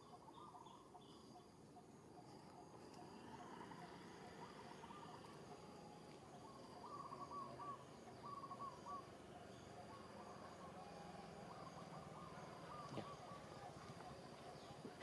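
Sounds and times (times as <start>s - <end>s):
high insect drone: 0.0s - 15.0s
hooting bird calls: 0.0s - 15.0s.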